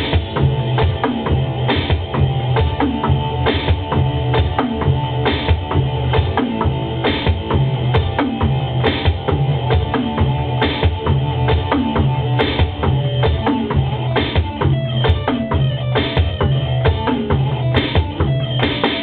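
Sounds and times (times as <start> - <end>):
electronic drum kit beat: 0.0 - 19.0
rock song: 0.0 - 19.0.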